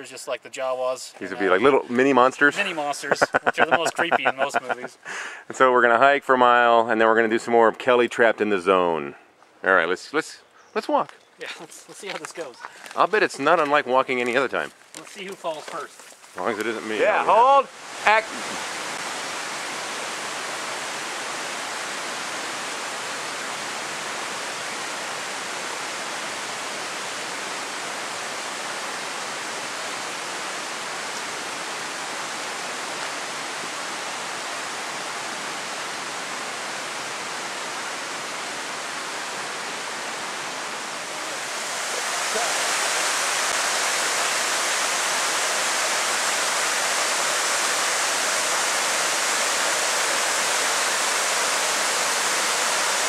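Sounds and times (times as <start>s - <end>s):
stream and waterfall rushing: 0.0s - 5.4s, 11.4s - 53.0s.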